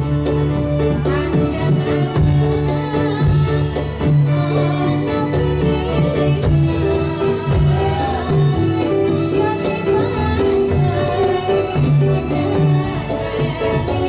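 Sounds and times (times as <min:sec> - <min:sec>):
folk dance music: 0:00.0 - 0:14.0
jingling hand percussion: 0:00.0 - 0:14.0
percussion beat: 0:00.0 - 0:14.0
person singing: 0:00.0 - 0:14.0.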